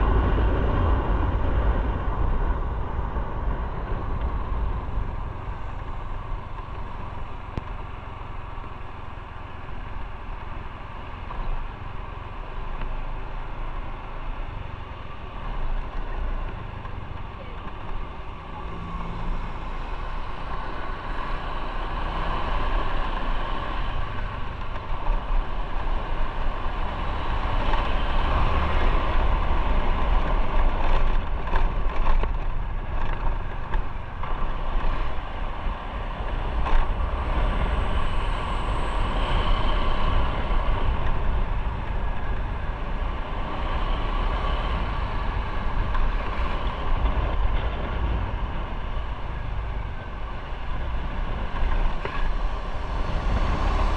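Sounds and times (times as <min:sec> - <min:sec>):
motorcycle engine rumble: 0:00.0 - 0:53.9
wind and road noise: 0:00.0 - 0:53.9.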